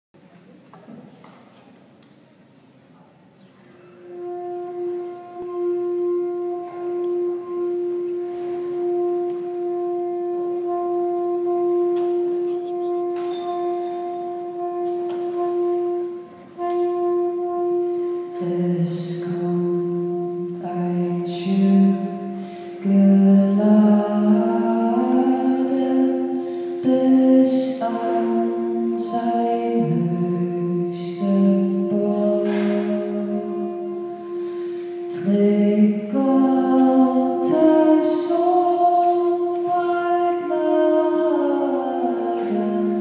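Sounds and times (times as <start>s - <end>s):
soprano saxophone: 3.4s - 43.0s
bass clarinet: 3.8s - 43.0s
low bass line: 4.4s - 43.0s.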